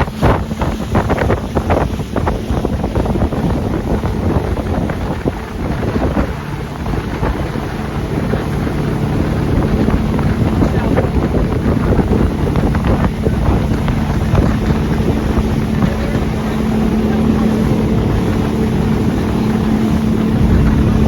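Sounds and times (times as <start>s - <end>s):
motorboat engine humming: 0.0s - 21.0s
rushing water: 0.0s - 21.0s
wind buffeting microphone: 0.0s - 21.0s.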